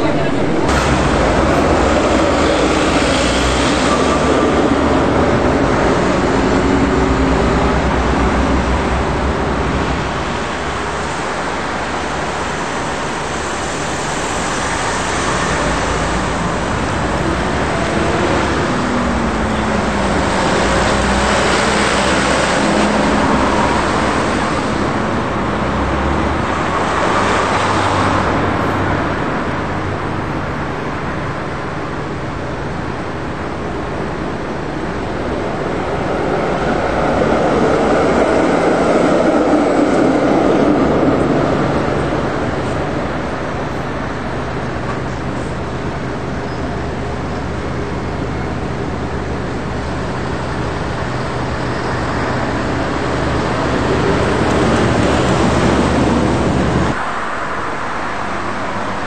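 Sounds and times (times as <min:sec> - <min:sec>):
vehicles driving past: 0:00.0 - 0:59.0.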